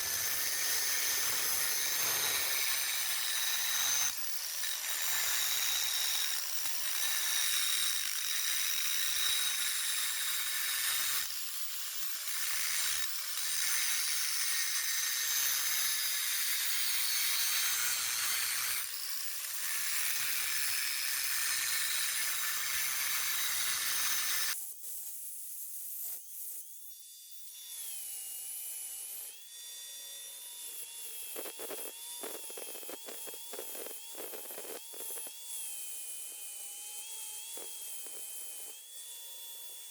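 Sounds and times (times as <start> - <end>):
power grinder whining on steel: 0.0 - 24.6, 26.8 - 39.9
small rotary tool whining: 0.0 - 39.9.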